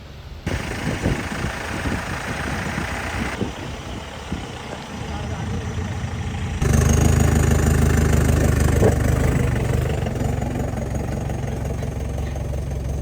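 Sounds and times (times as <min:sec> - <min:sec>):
diesel engine running: 0:00.4 - 0:13.0.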